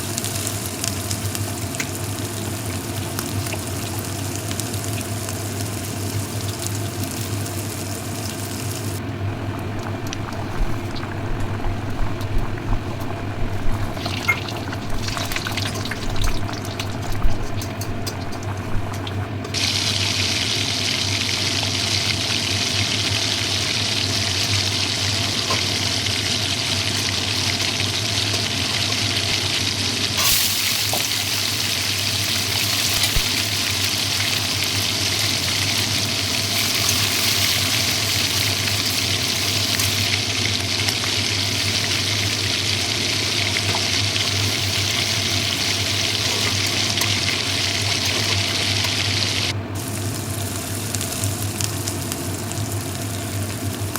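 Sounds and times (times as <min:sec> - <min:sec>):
food sizzling in hot oil: 0:00.0 - 0:53.9.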